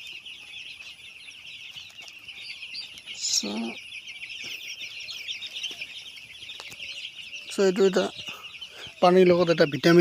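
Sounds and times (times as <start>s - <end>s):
chicks peeping: 0.0s - 10.0s.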